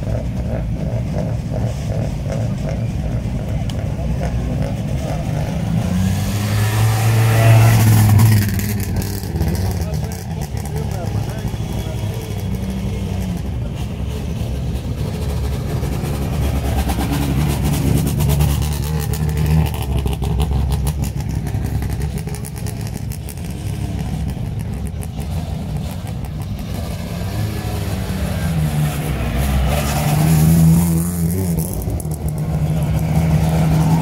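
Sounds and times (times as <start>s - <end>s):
car engines idling: 0.0s - 34.0s.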